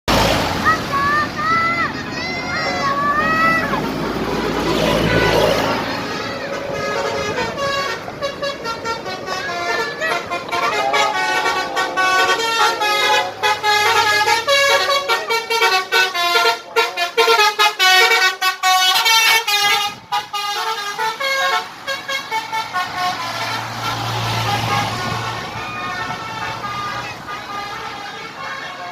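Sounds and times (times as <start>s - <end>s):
bus horn playing tuneful notes: 0.9s - 28.9s.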